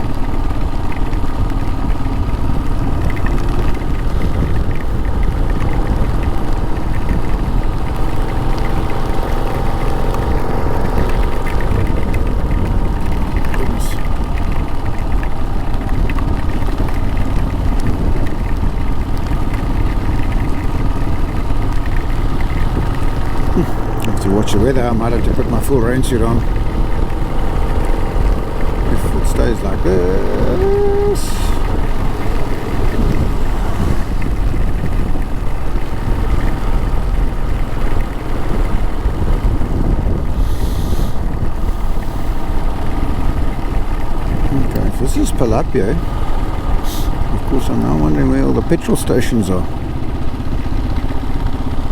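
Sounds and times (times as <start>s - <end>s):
motorcycle engine running: 0.0s - 51.9s
wind rumble on microphone: 0.0s - 51.9s.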